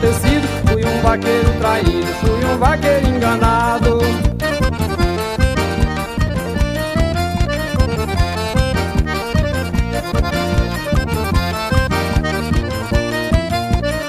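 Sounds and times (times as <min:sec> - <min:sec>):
accordion melody: 0:00.0 - 0:14.0
bass line: 0:00.0 - 0:14.0
percussion beat: 0:00.0 - 0:14.0.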